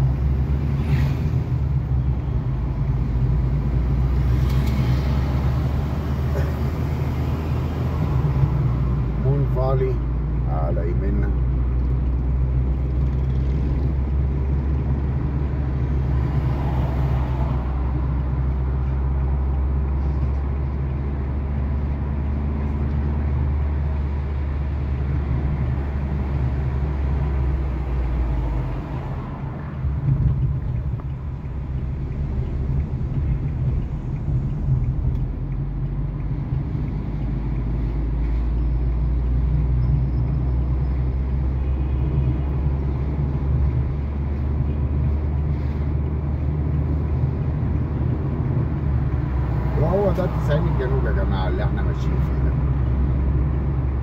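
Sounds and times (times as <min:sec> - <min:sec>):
car engine rumble: 0:00.0 - 0:54.0
tyres on road: 0:00.0 - 0:54.0.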